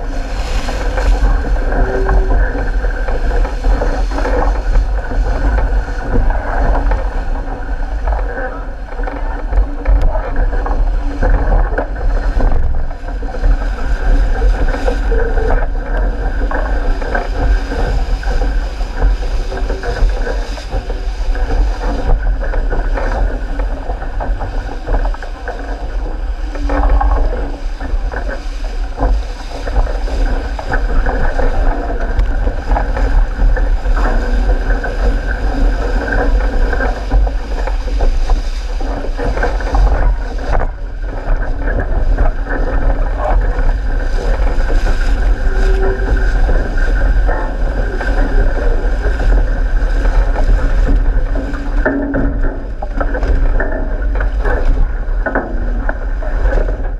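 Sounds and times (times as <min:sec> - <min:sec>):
water rushing along a hull: 0:00.0 - 0:56.9
wind buffeting microphone: 0:00.0 - 0:56.9.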